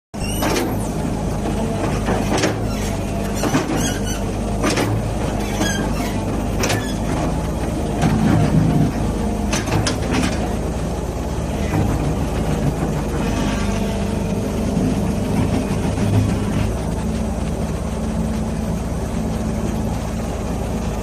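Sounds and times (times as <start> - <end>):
excavator diesel engine running: 0.2 - 21.0.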